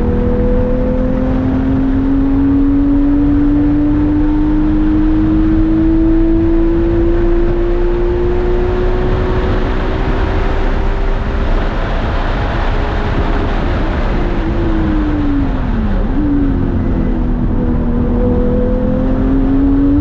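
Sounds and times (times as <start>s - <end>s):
steady rush of noise: 0.0s - 19.4s
car engine accelerating: 0.0s - 20.0s.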